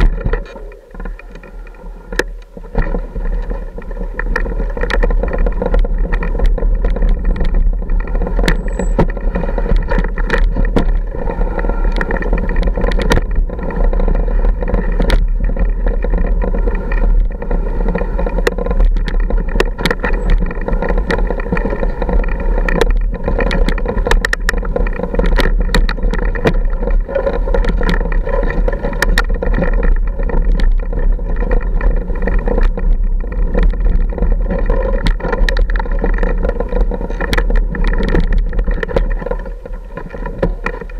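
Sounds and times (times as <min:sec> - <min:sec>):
motorcycle engine running: 0:00.0 - 0:40.9
rattles and knocks: 0:00.0 - 0:40.9.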